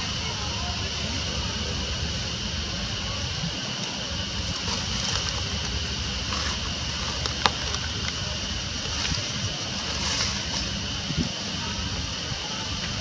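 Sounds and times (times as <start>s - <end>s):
high hiss: 0.0s - 13.0s
low rumble: 0.0s - 13.0s.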